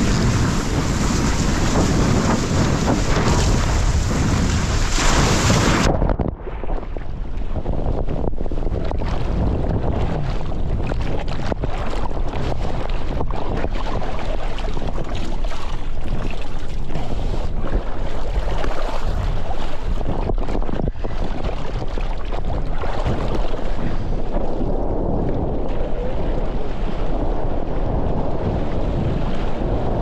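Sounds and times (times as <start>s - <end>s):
water rushing under board: 0.0s - 30.0s
wind buffeting microphone: 0.0s - 30.0s.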